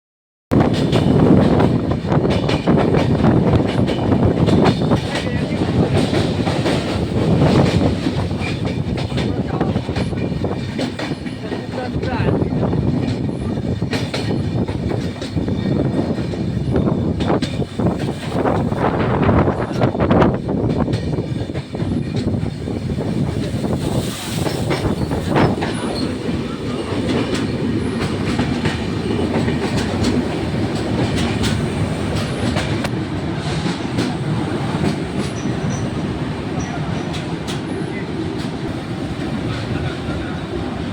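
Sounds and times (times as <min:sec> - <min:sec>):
train rumbling along track: 0:00.5 - 0:40.9.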